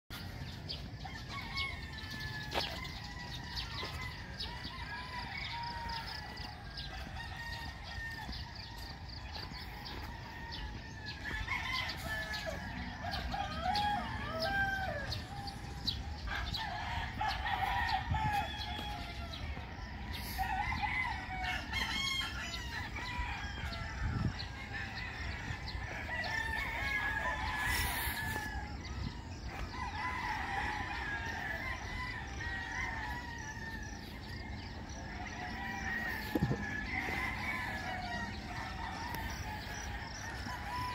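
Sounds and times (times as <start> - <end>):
chickens and roosters calling: 0.1 - 40.9.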